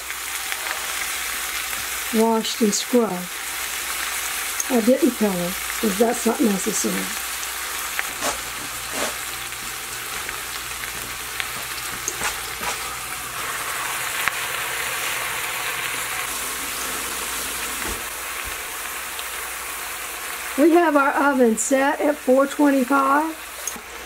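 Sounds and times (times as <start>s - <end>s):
vegetables sizzling in butter: 0.0s - 24.0s.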